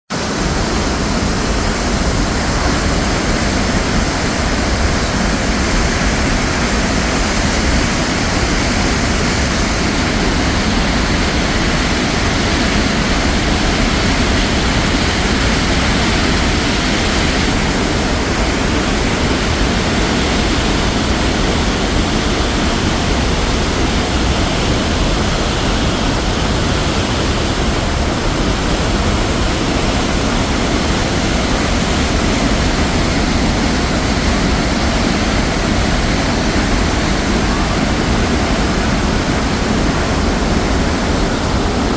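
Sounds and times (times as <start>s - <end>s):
waterfall rushing: 0.1s - 41.9s.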